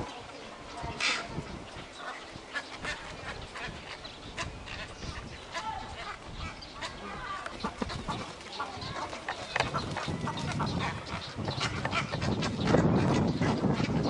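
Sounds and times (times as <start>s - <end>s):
egrets clucking calls: 0.3s - 14.0s.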